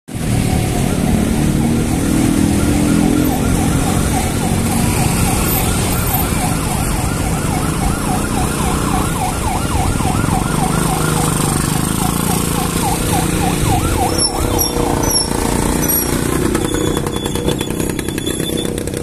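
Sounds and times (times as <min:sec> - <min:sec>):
warbling siren alarm tone: 0:00.2 - 0:19.0.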